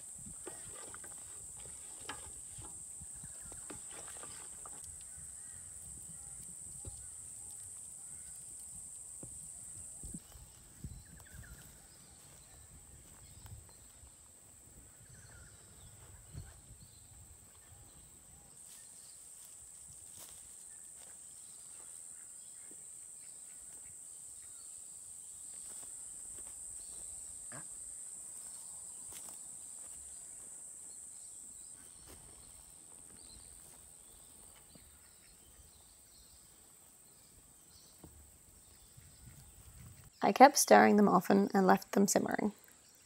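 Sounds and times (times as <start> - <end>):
high-pitched insect chorus: 0.0 - 16.1, 18.0 - 40.2.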